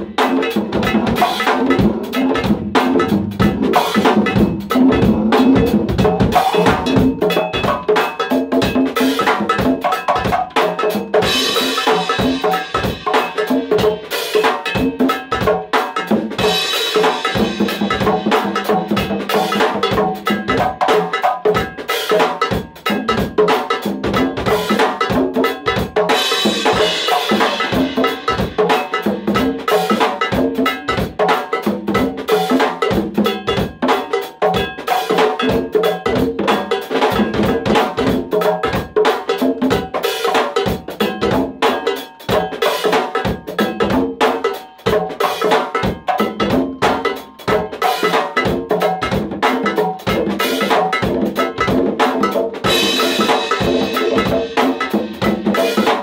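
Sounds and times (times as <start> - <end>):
congas played by hand: 0.0 - 56.0.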